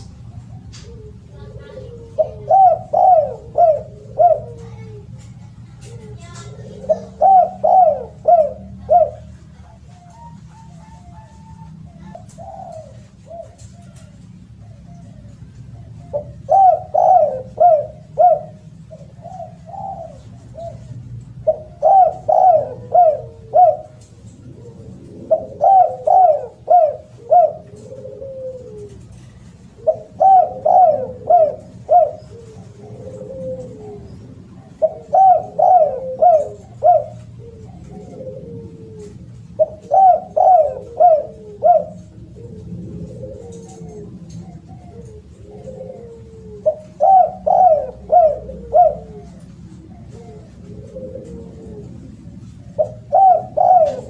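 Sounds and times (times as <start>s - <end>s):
dove cooing: 0.0s - 54.0s
steady low hum: 0.0s - 54.0s.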